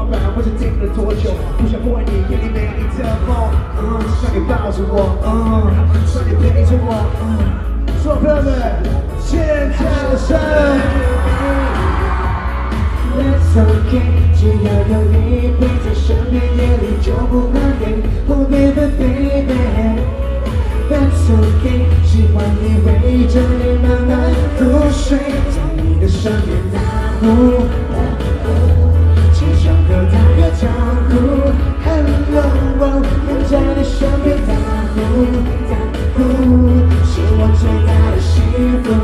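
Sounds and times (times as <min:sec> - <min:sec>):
heavy pulsing bass beat: 0:00.0 - 0:39.0
man singing pop song: 0:00.0 - 0:39.0.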